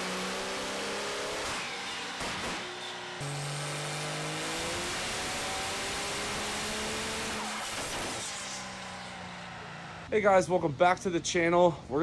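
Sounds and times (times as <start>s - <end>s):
diesel engine revving: 0.0s - 10.1s
rushing exhaust: 0.0s - 10.1s.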